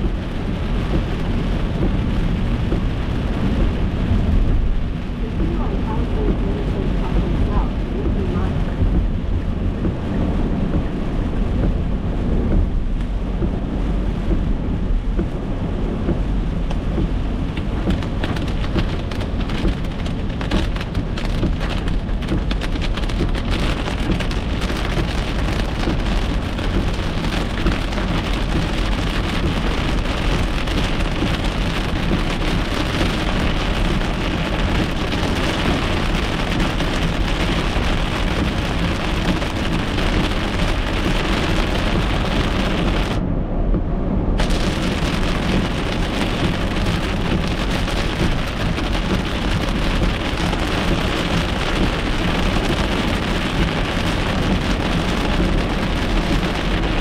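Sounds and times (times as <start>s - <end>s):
rain on car windshield and roof: 0.0s - 57.0s
tyres rumbling on wet road: 0.0s - 57.0s.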